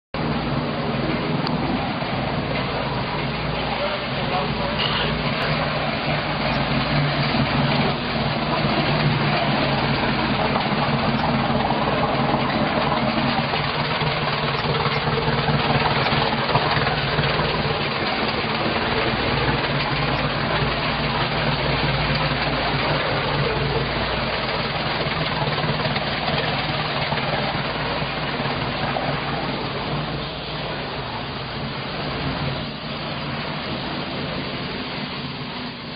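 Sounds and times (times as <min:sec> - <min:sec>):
boat engine idling: 0:00.2 - 0:35.9.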